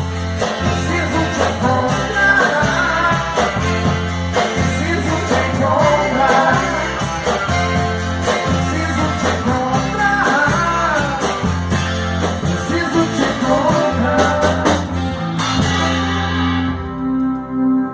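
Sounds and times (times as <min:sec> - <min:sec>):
steady drum beat: 0:00.0 - 0:17.0
bass: 0:00.0 - 0:17.9
lead guitar melody with bent notes: 0:00.0 - 0:17.9.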